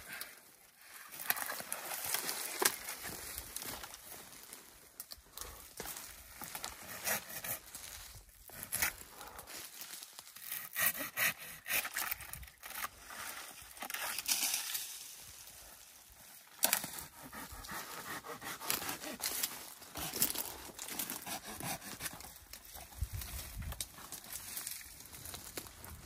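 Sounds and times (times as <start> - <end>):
pine branches rustling and crackling: 0.1 - 6.9, 7.6 - 10.5, 12.0 - 17.1, 18.6 - 21.3, 21.9 - 26.0.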